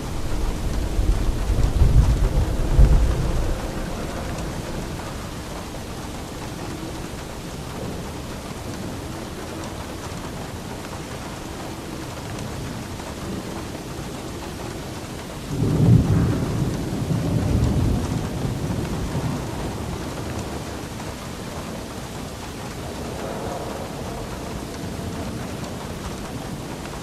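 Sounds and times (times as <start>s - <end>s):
steady rain: 0.0s - 27.0s
thunder rumbling: 0.0s - 27.0s.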